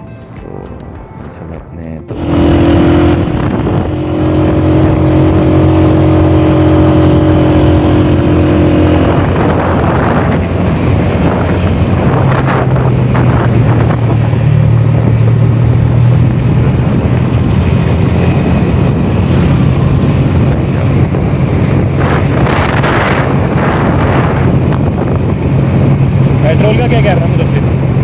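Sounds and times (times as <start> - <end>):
motorcycle engine running: 1.3 - 28.0
wind buffeting microphone: 2.1 - 28.0.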